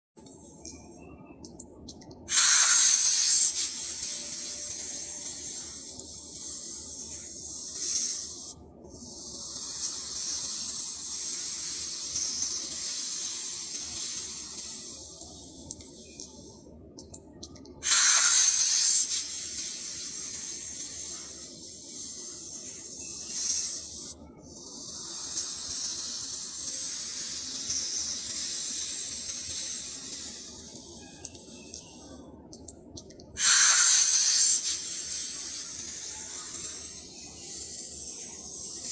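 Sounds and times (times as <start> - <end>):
snake hissing: 2.3 - 15.0, 17.8 - 30.9, 33.4 - 38.9.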